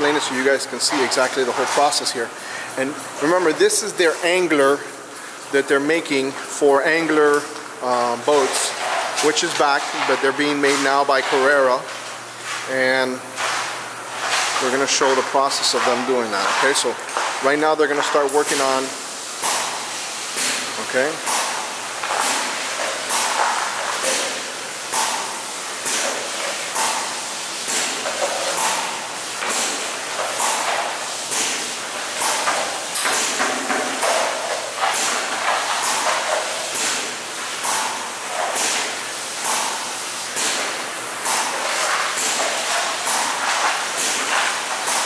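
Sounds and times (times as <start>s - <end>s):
spray gun spraying bursts: 8.0s - 45.0s.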